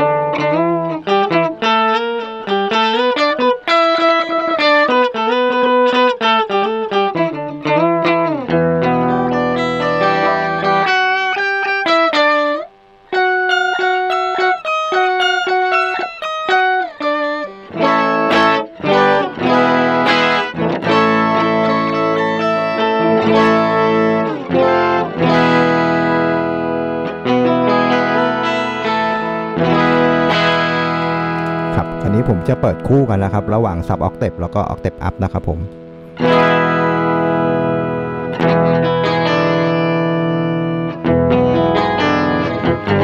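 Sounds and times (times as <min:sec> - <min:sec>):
electric guitar with octave effect: 0:00.0 - 0:43.0
strummed guitar chords: 0:00.0 - 0:43.0.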